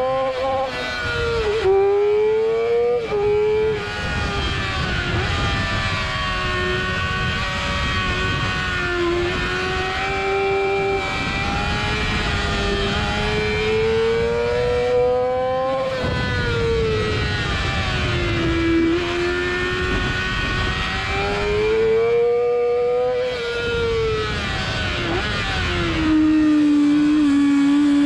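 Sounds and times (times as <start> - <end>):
motorcycle engine revving: 0.0 - 28.0
wind rush: 3.0 - 28.0.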